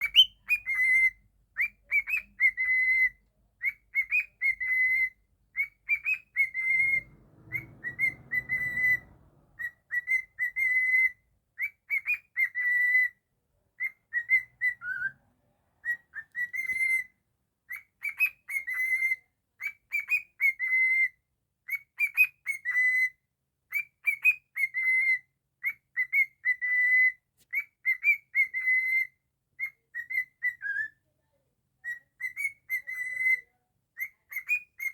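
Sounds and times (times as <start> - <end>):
cockatiel whistling: 0.0 - 13.2, 13.8 - 15.2, 15.8 - 31.0, 31.8 - 34.9.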